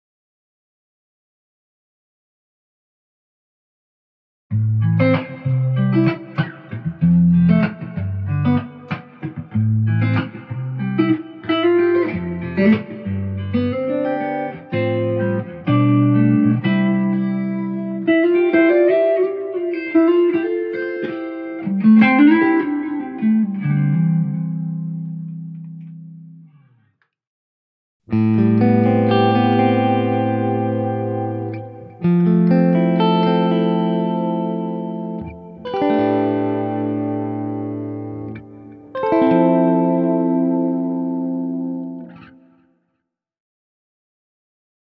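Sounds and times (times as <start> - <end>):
electric guitar playing chords: 4.5 - 26.6, 28.1 - 42.6.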